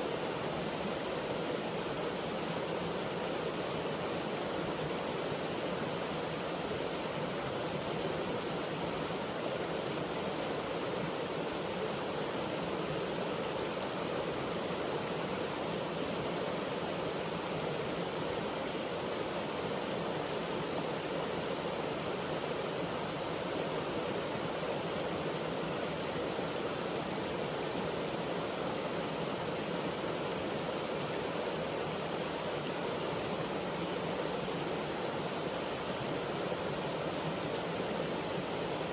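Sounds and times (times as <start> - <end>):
brook running water: 0.0 - 38.9.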